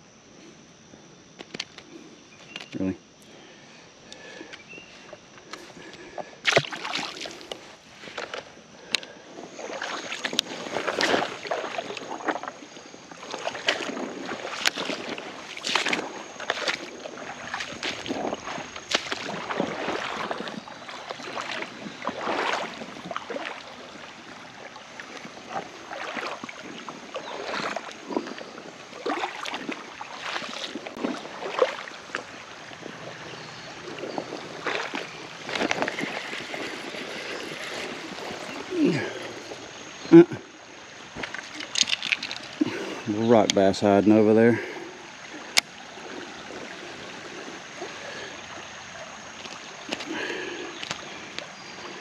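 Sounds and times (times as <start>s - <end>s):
footsteps wading through creek: 3.4s - 52.0s
water sloshing and splashing: 4.1s - 52.0s.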